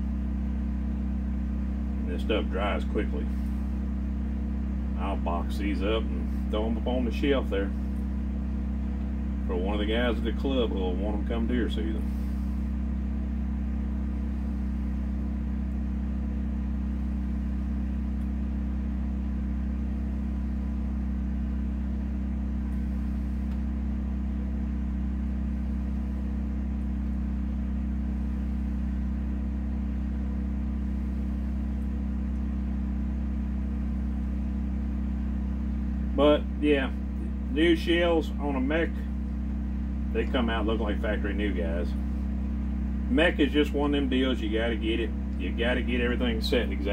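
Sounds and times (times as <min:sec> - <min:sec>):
heater humming: 0:00.0 - 0:46.9.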